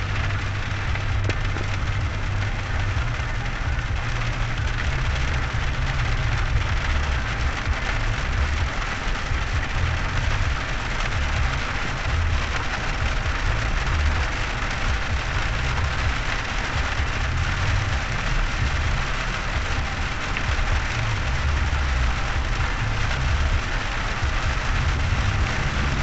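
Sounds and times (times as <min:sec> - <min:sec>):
car driving on wet road: 0:00.0 - 0:26.0
rain on car roof: 0:00.0 - 0:26.0.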